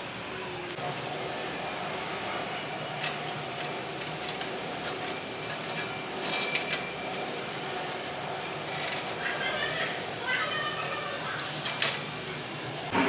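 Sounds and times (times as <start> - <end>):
steady machine hum: 0.0 - 13.0
metal parts clinking: 1.5 - 12.9.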